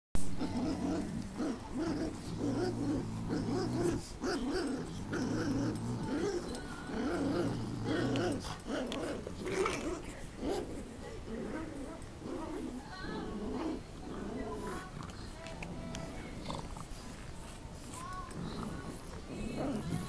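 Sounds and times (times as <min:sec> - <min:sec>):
dogs growling in play: 0:00.2 - 0:20.0.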